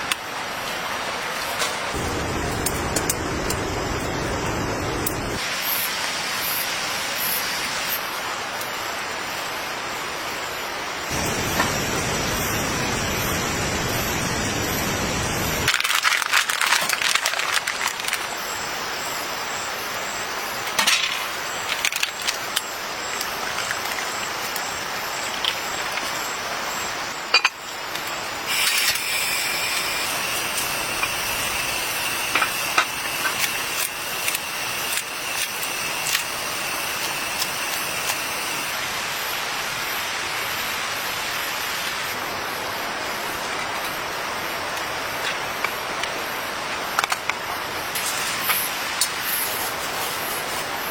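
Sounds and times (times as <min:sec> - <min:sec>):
rain hiss: 0:00.0 - 0:50.9.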